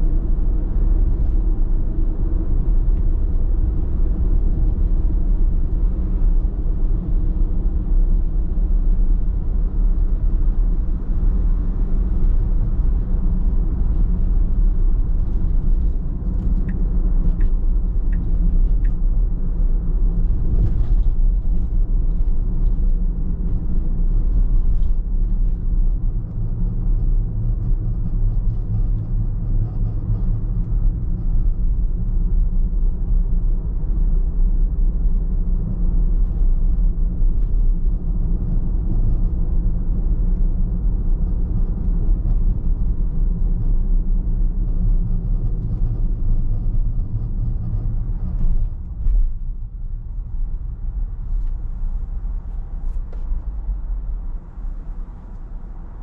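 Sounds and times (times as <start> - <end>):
car engine and tyre road noise: 0.0 - 56.0.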